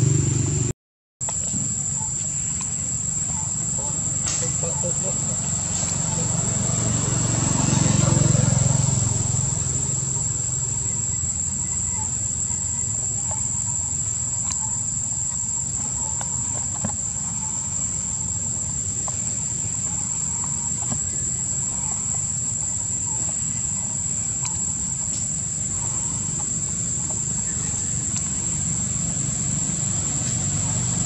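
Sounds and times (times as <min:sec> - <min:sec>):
insects droning: 0:00.0 - 0:31.0
low steady rumble: 0:01.4 - 0:31.0.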